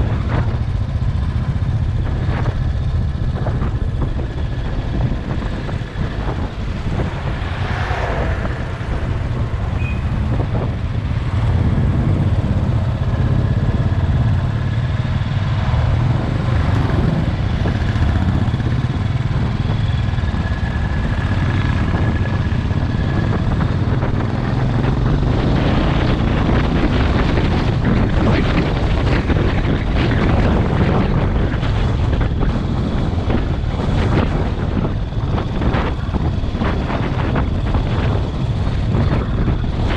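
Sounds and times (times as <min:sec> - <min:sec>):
motorcycle engine rumble: 0:00.0 - 0:39.9
wind buffeting microphone: 0:00.0 - 0:39.9.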